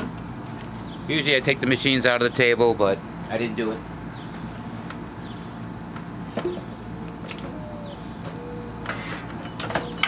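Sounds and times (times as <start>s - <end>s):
insect drone: 0.0s - 10.0s.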